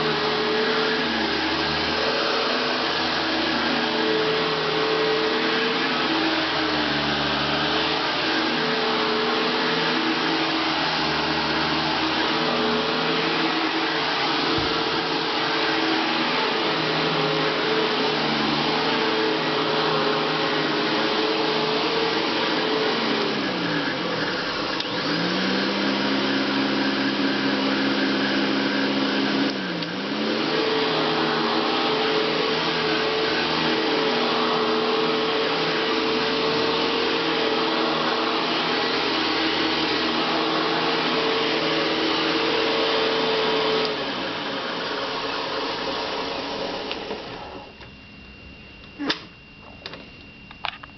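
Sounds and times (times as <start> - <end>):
upright vacuum cleaner running: 0.0 - 50.9.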